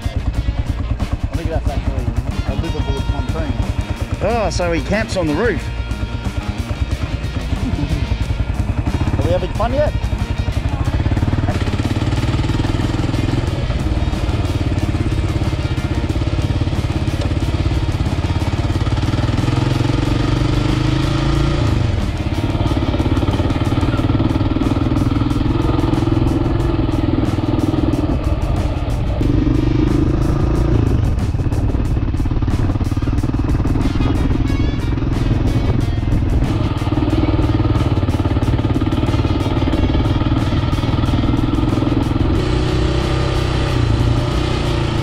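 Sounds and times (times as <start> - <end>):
single-cylinder motorcycle engine: 0.0 - 45.0.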